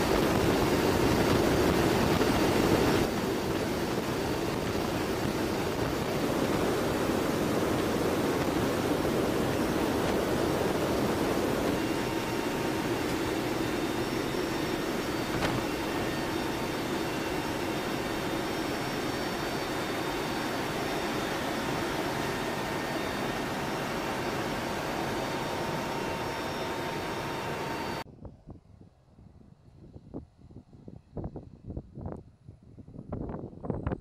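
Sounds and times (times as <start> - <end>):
rushing wind: 0.0 - 34.0
turboprop engine noise: 0.0 - 34.0.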